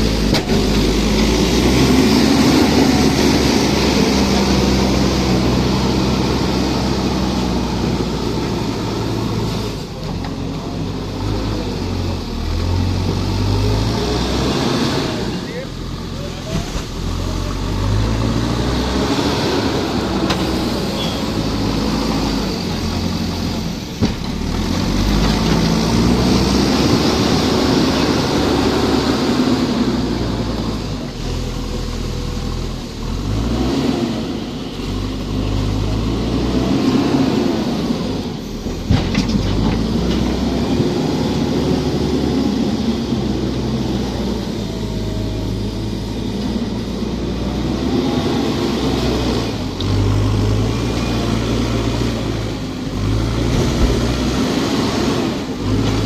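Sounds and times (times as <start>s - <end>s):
heavy machinery engine revving: 0.0s - 56.0s.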